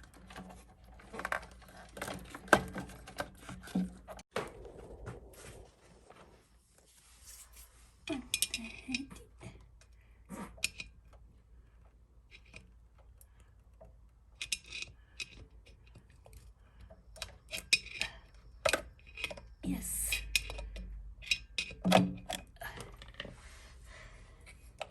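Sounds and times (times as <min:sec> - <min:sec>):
hand tools and metal parts clattering: 0:00.0 - 0:04.7, 0:07.6 - 0:23.4.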